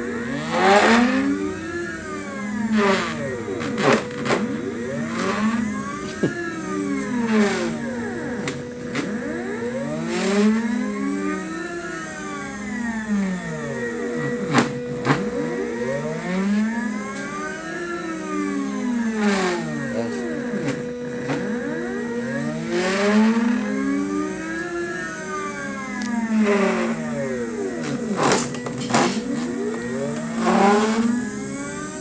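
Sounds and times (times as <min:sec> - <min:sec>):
stepper motors whining: 0:00.0 - 0:32.0.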